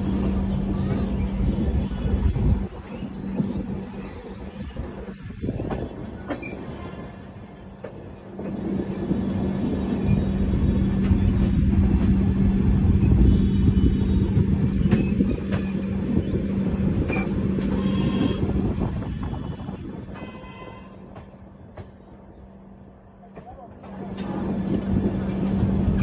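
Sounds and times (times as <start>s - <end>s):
train coach rumbling on rails: 0.0s - 26.0s.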